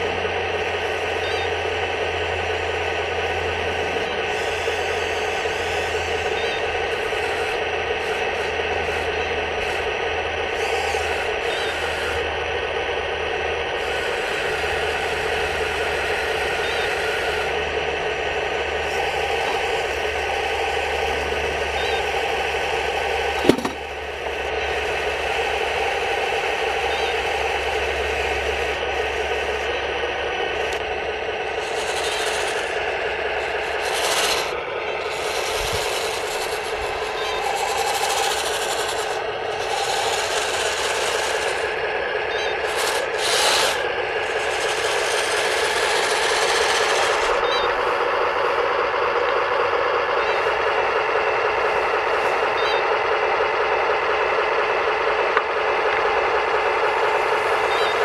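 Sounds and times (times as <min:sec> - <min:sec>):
electric motors whirring: 0:00.0 - 0:58.0.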